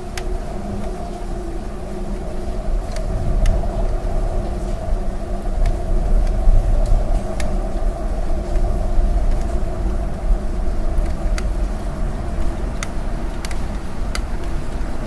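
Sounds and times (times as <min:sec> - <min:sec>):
low rumble of city traffic: 0:00.0 - 0:15.0
raindrops ticking: 0:02.1 - 0:15.0.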